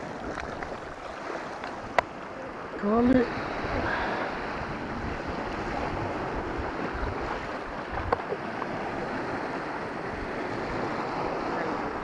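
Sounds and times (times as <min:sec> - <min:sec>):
waves breaking on rocky shore: 0:00.0 - 0:12.0
wind rumbling on microphone: 0:00.0 - 0:12.0.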